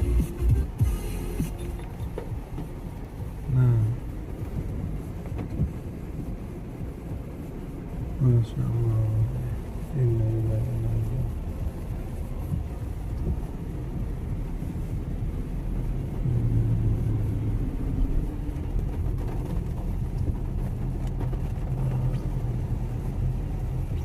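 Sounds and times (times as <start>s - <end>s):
muffled car cabin drone: 0.0s - 24.0s.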